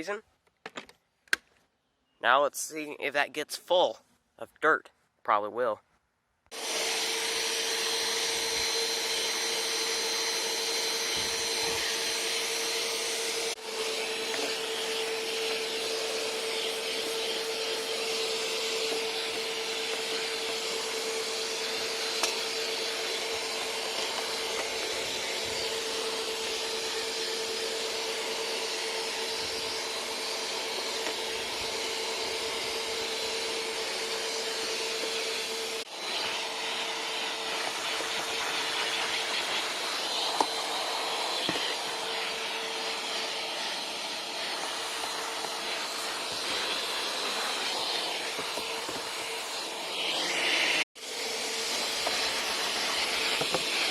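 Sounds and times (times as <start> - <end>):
vacuum cleaner whining: 6.5 - 53.9.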